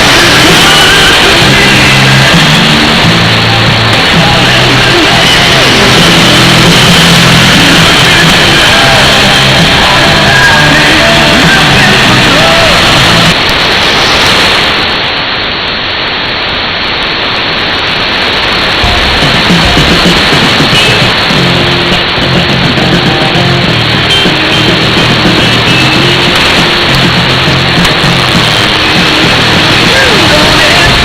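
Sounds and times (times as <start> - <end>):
music on radio broadcast: 0.0 - 31.0
radio static hiss: 0.0 - 31.0.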